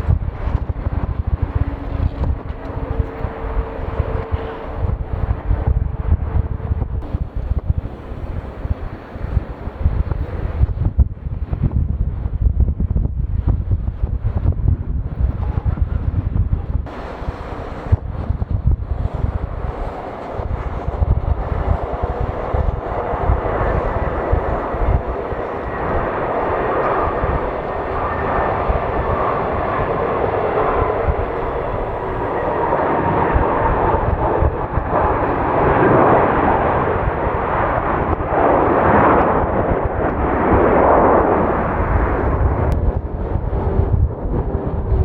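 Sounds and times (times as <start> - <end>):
jet engines roaring: 0.0 - 10.8, 15.1 - 45.0
wind buffeting the microphone: 0.0 - 45.0.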